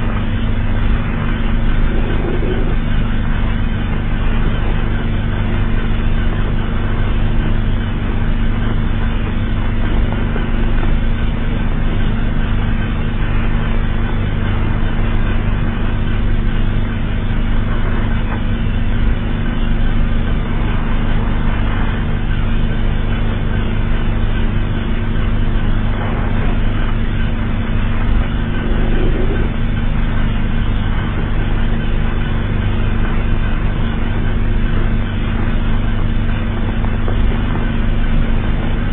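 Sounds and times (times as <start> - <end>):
low alarm drone: 0.0 - 38.9
rumbling hiss: 0.0 - 38.9.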